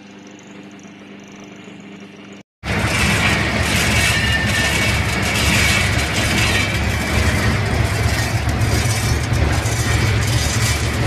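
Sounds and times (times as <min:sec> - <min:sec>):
granulator machine drone: 0:00.0 - 0:11.0.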